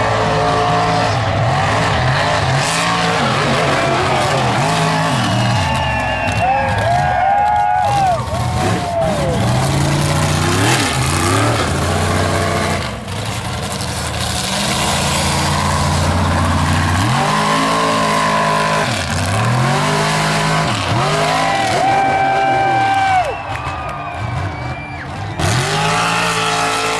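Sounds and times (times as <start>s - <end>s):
truck engine revving hard: 0.0s - 26.9s.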